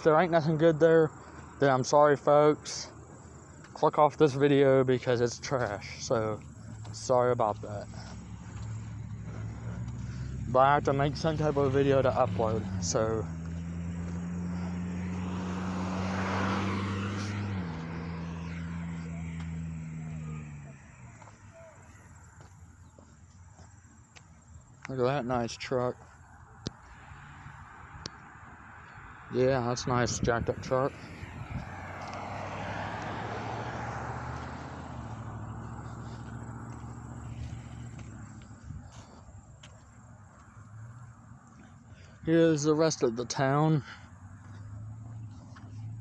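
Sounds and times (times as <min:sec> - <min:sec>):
rushing tyre noise: 0:00.0 - 0:46.0
vehicle engine drone: 0:00.0 - 0:46.0.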